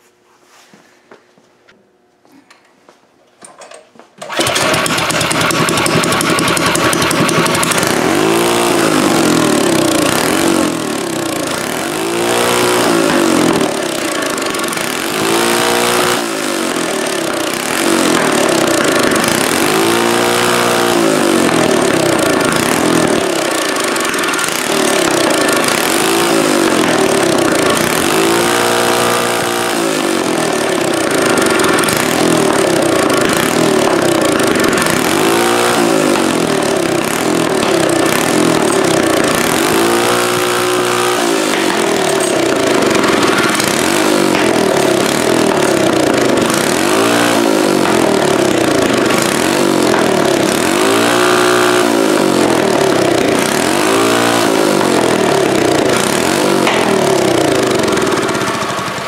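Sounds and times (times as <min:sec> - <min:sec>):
small engine starting and revving: 0:04.2 - 0:59.0.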